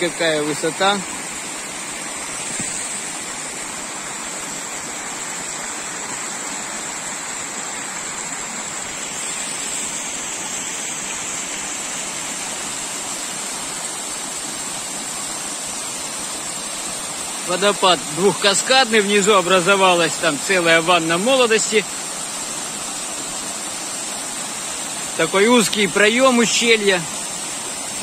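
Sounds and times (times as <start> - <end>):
waterfall pouring over rock: 0.0 - 28.0.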